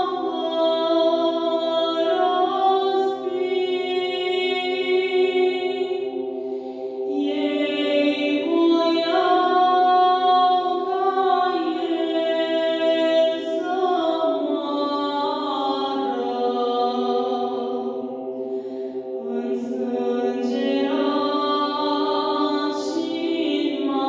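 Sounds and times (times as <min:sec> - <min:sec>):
woman singing unaccompanied: 0:00.0 - 0:06.1, 0:07.1 - 0:18.0, 0:19.2 - 0:24.0.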